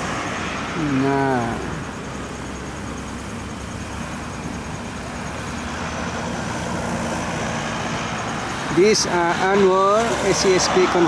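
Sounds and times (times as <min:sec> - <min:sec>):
highway traffic rushing: 0:00.0 - 0:11.0
low engine hum: 0:00.0 - 0:11.0.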